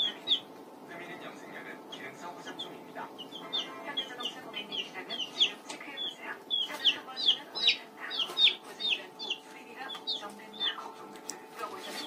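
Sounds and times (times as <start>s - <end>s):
baby chick peeping: 0.0s - 12.0s.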